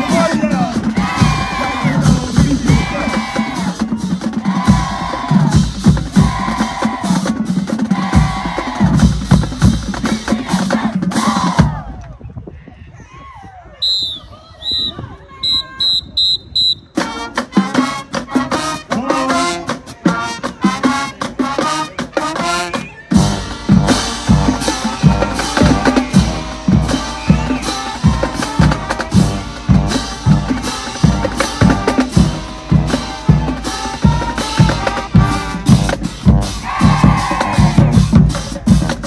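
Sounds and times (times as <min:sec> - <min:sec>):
marching band playing: 0:00.0 - 0:11.8, 0:14.9 - 0:39.0.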